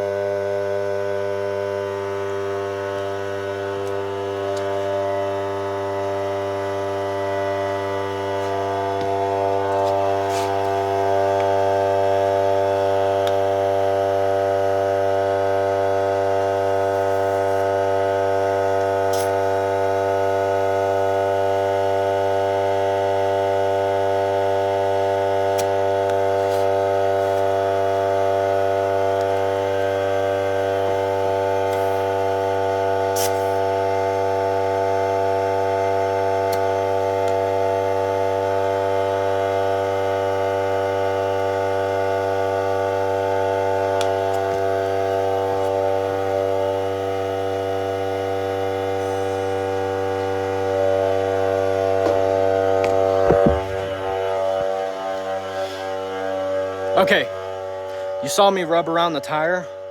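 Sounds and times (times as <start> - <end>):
air compressor humming: 0.0 - 59.9.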